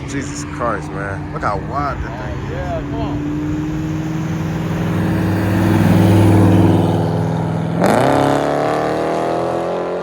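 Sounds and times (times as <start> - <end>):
sports car engine revving: 0.0 - 10.0.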